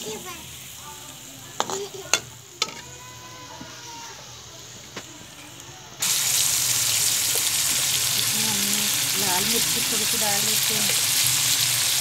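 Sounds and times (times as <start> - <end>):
onions sizzling in a wok: 0.0 - 12.0.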